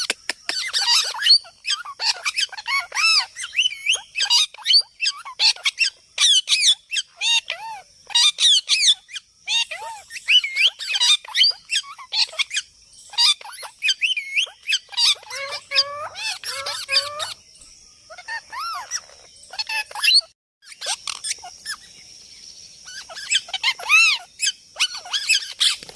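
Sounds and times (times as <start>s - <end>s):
parrot squawking: 0.5s - 17.4s, 18.1s - 21.8s, 22.9s - 25.8s.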